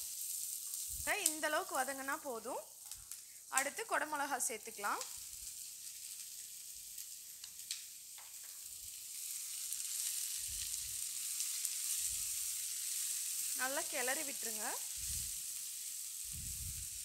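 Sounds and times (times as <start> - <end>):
capsicum sizzling in oil: 0.0 - 17.0.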